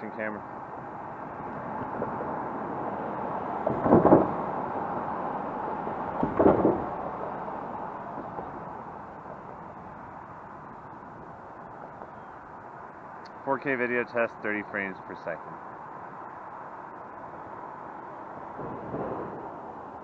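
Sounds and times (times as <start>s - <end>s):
cars driving past: 0.0s - 20.0s
hum of distant traffic: 0.0s - 20.0s.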